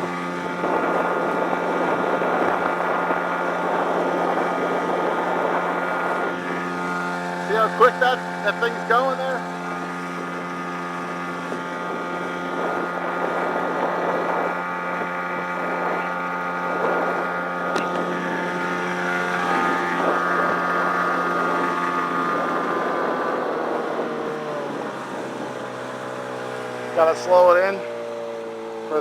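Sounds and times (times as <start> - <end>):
wind on microphone: 0.0 - 28.1
hull and water rushing: 0.0 - 29.0
outboard motor at full throttle: 0.0 - 29.0.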